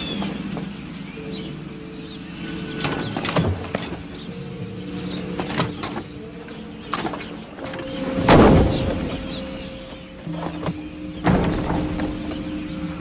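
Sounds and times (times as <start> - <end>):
low sustained music notes: 0.0 - 13.0.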